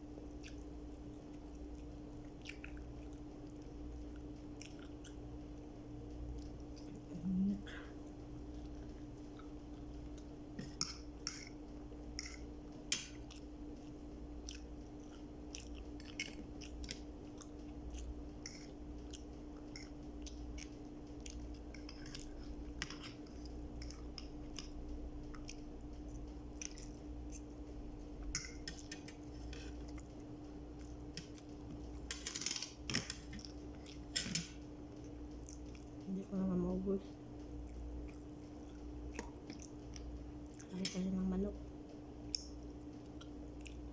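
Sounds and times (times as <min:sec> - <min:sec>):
person chewing food: 0:00.0 - 0:36.1, 0:37.1 - 0:40.8, 0:42.2 - 0:43.9
steady low hum: 0:00.0 - 0:43.9.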